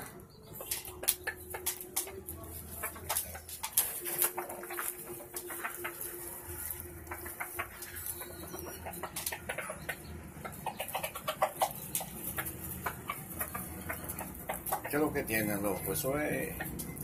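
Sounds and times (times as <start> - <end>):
chickens clucking softly: 0.0 - 17.0.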